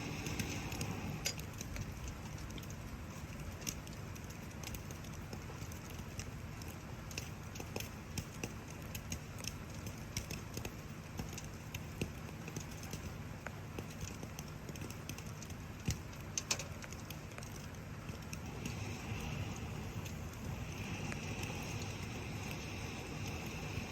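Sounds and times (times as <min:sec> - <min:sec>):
campfire crackling and popping: 0:00.0 - 0:23.9
rain rumble: 0:00.0 - 0:23.9.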